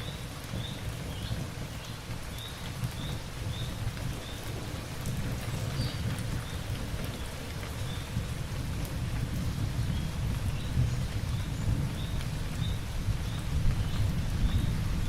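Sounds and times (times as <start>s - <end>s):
heavy rain: 0.0s - 15.0s
low rumble of thunder: 0.0s - 15.0s.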